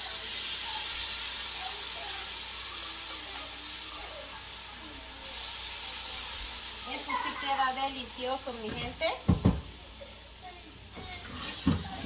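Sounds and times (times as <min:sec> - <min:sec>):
sauce sizzling in hot oil: 0:00.0 - 0:12.0.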